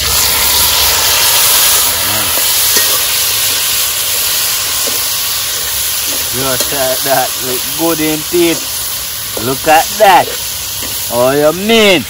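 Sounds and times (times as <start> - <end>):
food sizzling in hot pot: 0.0 - 12.0.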